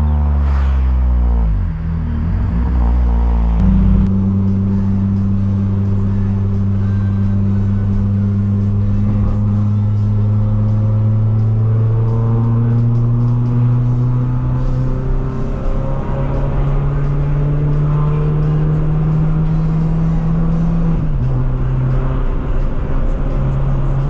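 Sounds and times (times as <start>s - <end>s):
car engine droning: 0.0s - 24.0s.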